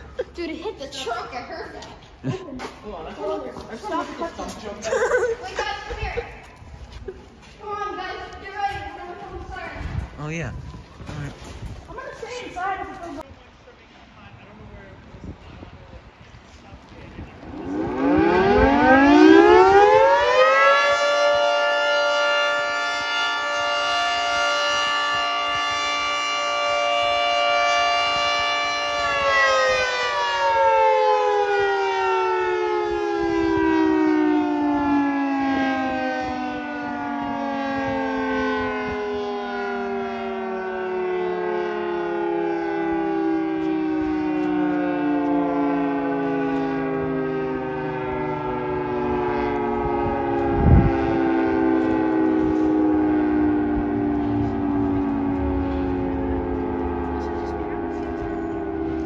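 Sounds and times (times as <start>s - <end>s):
fire siren wailing: 7.6s - 13.2s, 16.8s - 59.0s.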